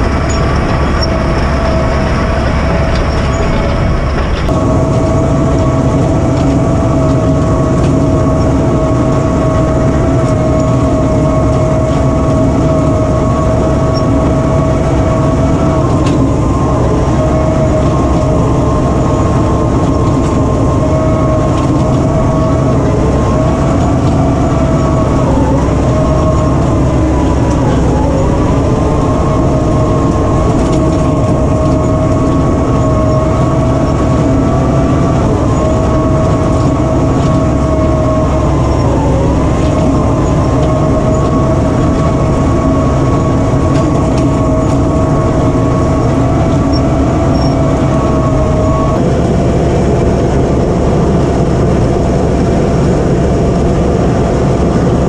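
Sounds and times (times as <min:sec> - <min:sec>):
bulldozer diesel engine under load: 0:00.0 - 0:55.0.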